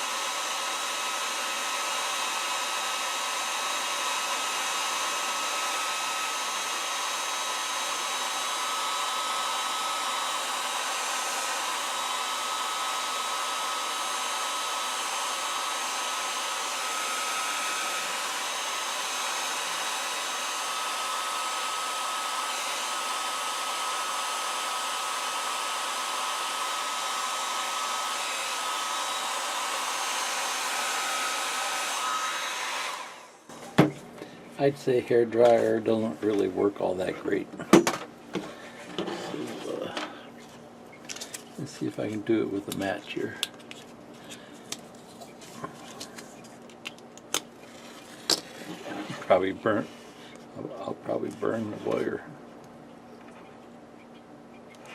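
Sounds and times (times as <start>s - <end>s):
hair dryer blowing: 0.0s - 40.4s, 47.3s - 52.2s.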